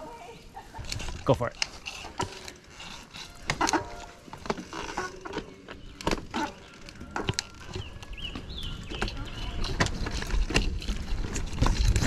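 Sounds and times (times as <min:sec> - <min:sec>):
mountain bike clattering on trail: 0:00.8 - 0:12.0.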